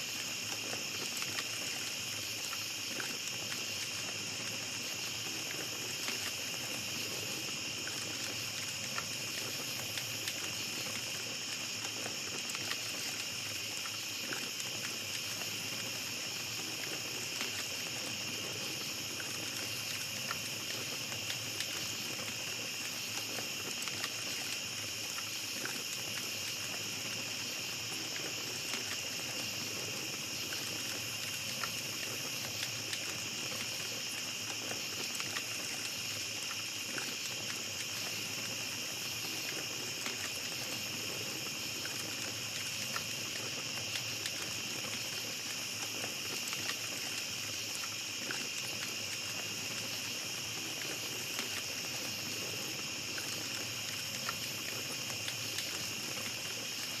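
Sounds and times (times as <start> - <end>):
campfire crackling: 0.0 - 57.0
night insects chirping: 0.0 - 57.0.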